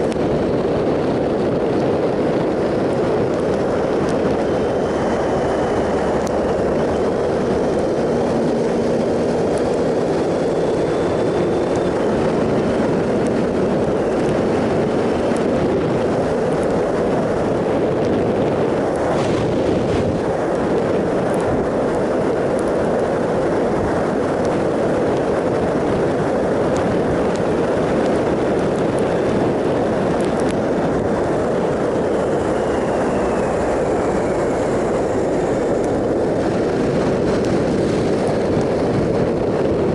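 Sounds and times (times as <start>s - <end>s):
motorcycle engine drone: 0.0s - 39.9s
wind noise: 0.0s - 39.9s.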